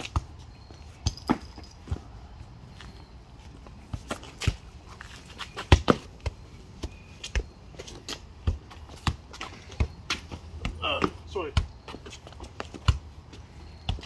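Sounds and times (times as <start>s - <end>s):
football thuds on asphalt: 0.0s - 2.2s, 3.8s - 14.0s.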